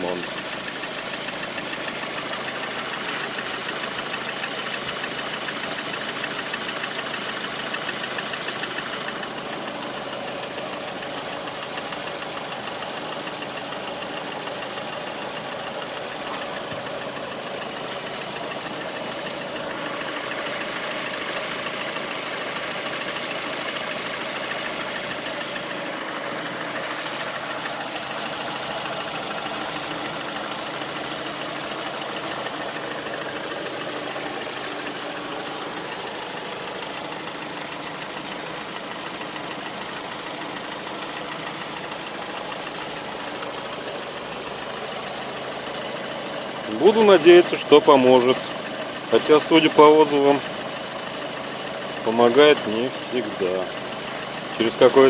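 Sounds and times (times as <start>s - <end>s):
car engine running with knock: 0.0s - 55.0s.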